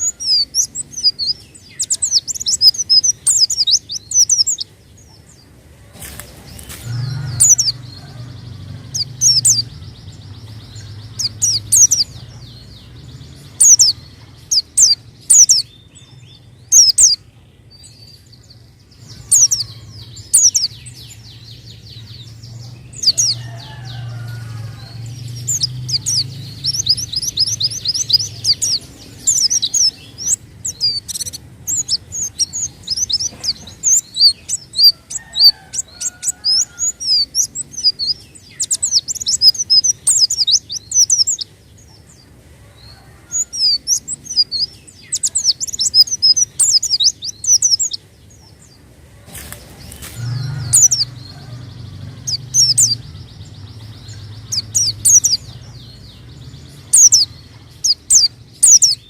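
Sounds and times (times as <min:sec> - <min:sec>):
bird chirping in rapid runs: 0:00.0 - 0:59.0.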